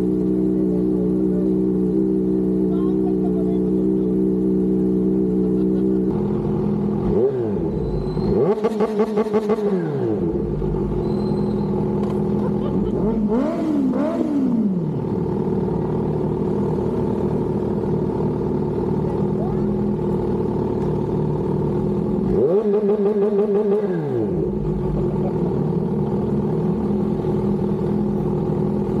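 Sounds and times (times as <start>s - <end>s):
motorcycle idling and revving: 0.0s - 29.0s.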